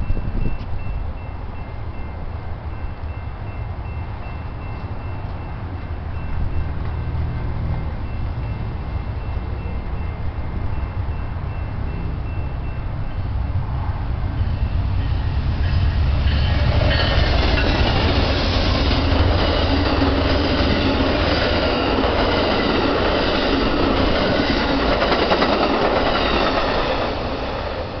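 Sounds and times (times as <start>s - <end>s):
diesel locomotive rumble: 0.0s - 28.0s
train cars rolling on rails: 0.0s - 28.0s.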